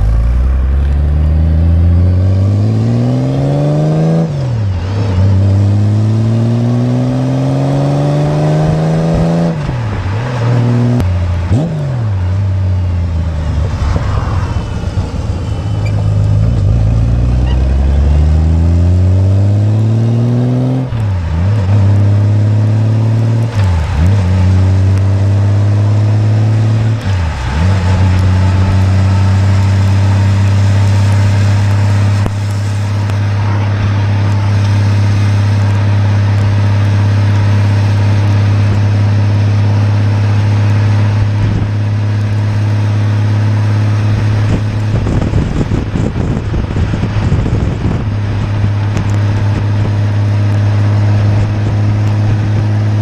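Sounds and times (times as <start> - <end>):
motorcycle engine and exhaust: 0.0 - 53.0.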